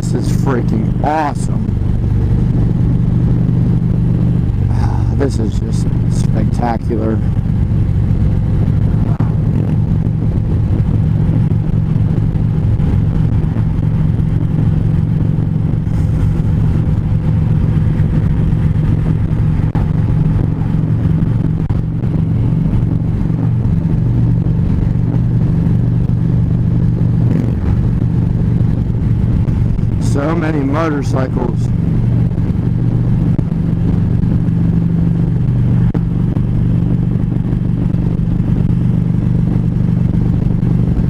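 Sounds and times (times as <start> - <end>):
motorcycle engine cruising: 0.0 - 41.0
wind and road noise: 0.0 - 41.0.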